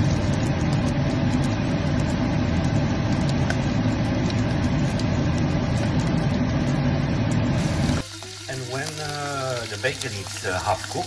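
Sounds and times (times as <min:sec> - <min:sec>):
fat sizzling and crackling: 0:00.0 - 0:11.0
steady low hum: 0:00.0 - 0:11.0.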